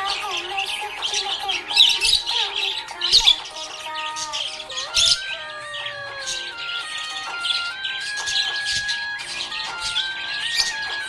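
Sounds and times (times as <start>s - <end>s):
background music: 0.0s - 11.0s
budgerigar chirping: 0.0s - 11.0s.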